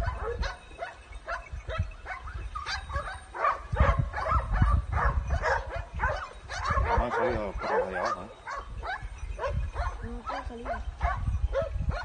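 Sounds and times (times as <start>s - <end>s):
dogs barking and yelping: 0.0s - 12.0s.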